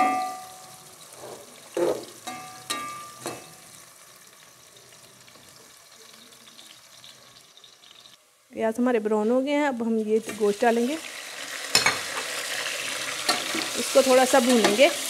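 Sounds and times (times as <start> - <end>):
onions sizzling in a pot: 0.0 - 15.0.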